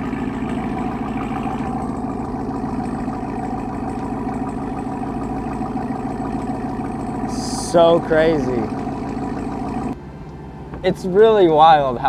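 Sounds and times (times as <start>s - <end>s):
engine idling through exhaust: 0.0s - 12.0s.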